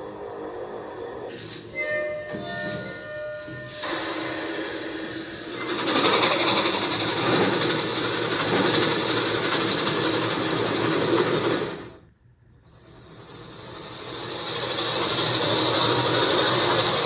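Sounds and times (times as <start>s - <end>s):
steam locomotive running: 0.0s - 17.0s.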